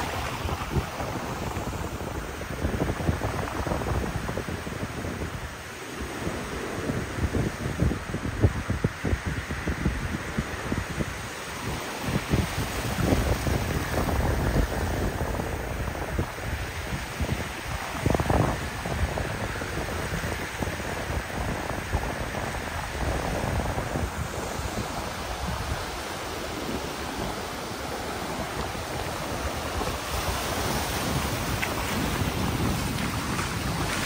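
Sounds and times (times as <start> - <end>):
surf waves breaking on beach: 0.0 - 34.0
wind buffeting microphone: 0.0 - 34.0.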